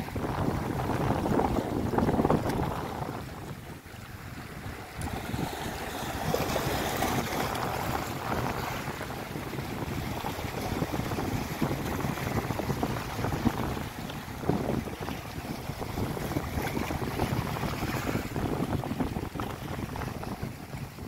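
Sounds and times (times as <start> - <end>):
small waves washing against rocks: 0.0 - 21.0
wind buffeting microphone: 0.0 - 21.0.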